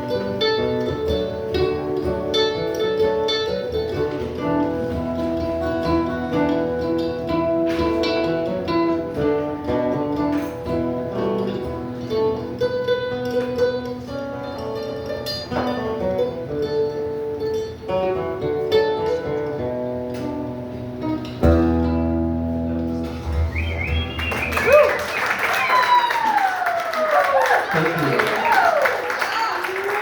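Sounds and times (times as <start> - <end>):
acoustic guitar picking and strumming: 0.0 - 24.6.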